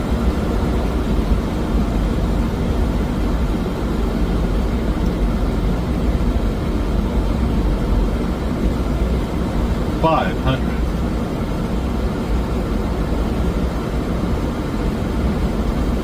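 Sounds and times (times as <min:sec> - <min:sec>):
airflow rushing past cockpit: 0:00.0 - 0:16.0
jet engines droning: 0:00.0 - 0:16.0.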